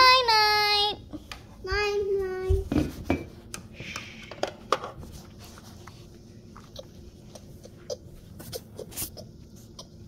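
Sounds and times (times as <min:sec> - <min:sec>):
faint room hum: 0:00.0 - 0:10.0.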